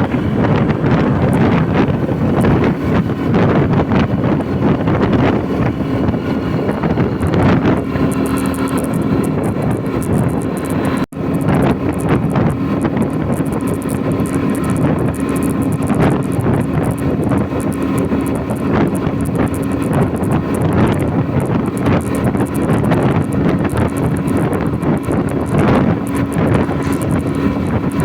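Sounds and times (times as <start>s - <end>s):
vehicle engine running: 0.0s - 28.0s
wind noise on microphone: 0.0s - 28.0s.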